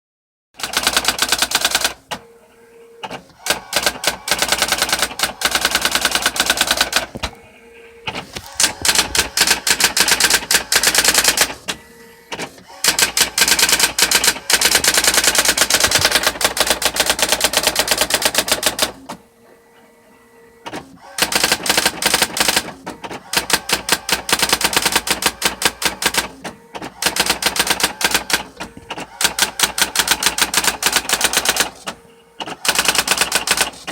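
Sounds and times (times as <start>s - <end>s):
typewriter printing sharp strikes: 0.6s - 2.3s, 3.0s - 19.2s, 20.6s - 33.9s.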